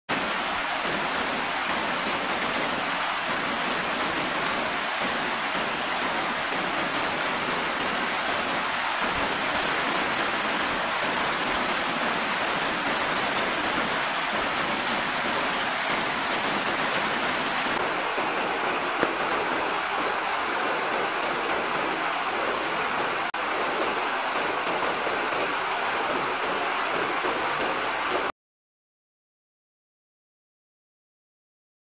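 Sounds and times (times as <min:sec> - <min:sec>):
stream rushing over stones: 0:00.1 - 0:28.3.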